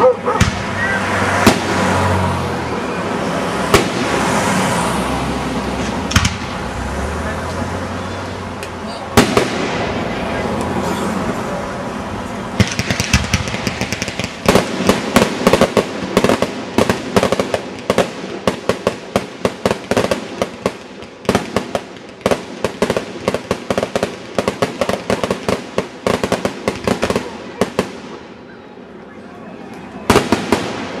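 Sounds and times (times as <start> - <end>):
fireworks cracking: 0.0 - 11.3, 12.4 - 28.5, 30.0 - 31.0.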